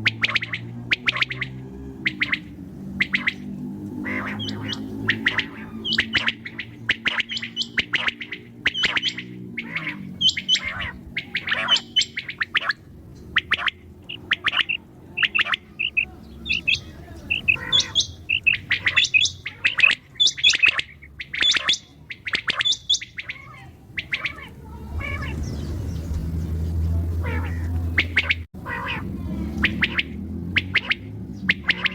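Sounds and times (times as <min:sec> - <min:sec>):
quail calling: 0:00.0 - 0:31.9.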